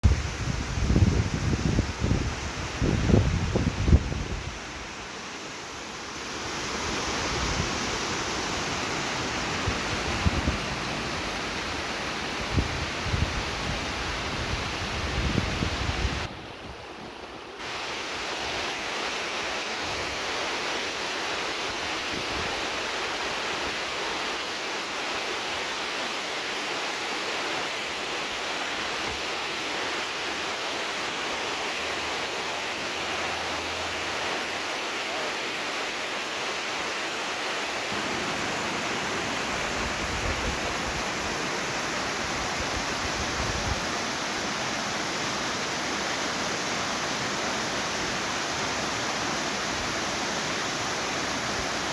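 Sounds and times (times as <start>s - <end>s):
flowing water rushing: 0.0s - 51.9s.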